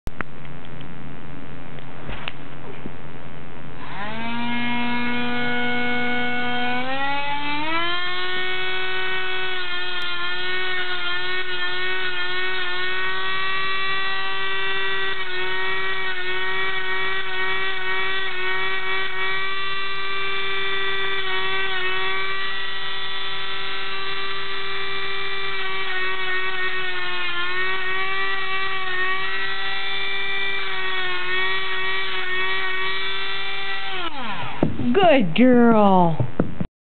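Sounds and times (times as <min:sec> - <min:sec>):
rotary tool grinding nails: 0:03.8 - 0:34.9.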